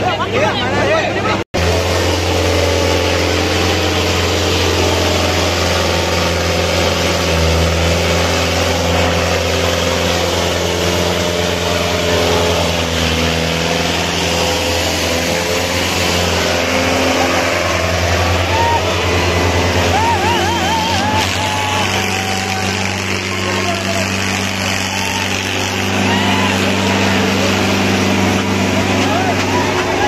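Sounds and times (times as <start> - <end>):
tractor diesel engines running hard: 0.0 - 30.0.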